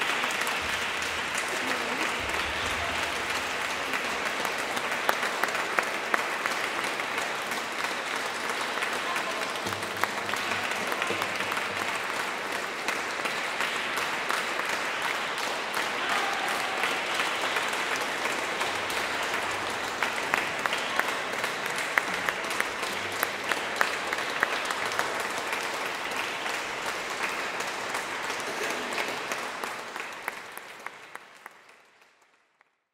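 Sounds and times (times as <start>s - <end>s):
audience applauding: 0.0s - 32.8s.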